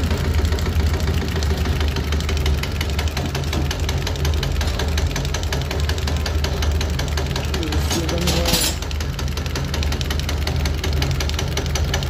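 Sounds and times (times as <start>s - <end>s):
rapid even ticking of nozzles: 0.0s - 12.0s
test bench motor hum: 0.0s - 12.0s.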